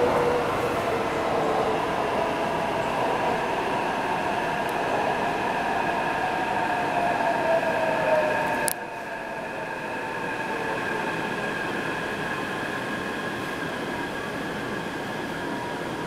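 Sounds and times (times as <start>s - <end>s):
train running through tunnel: 0.0s - 16.0s.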